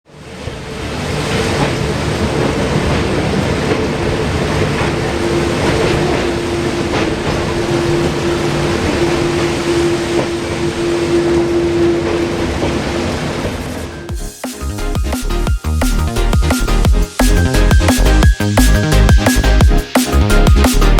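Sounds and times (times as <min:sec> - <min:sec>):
train rumbling on rails: 0:00.1 - 0:20.9
train wheels clicking: 0:01.2 - 0:20.9.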